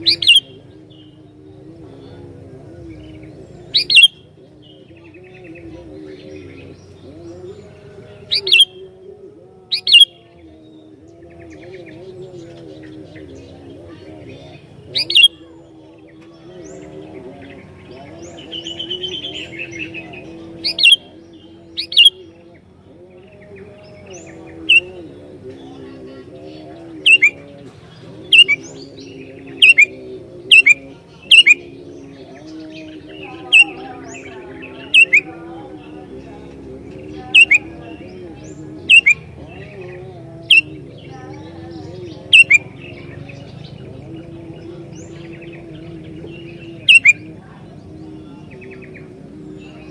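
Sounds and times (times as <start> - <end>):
bird chirping: 0.0 - 49.9.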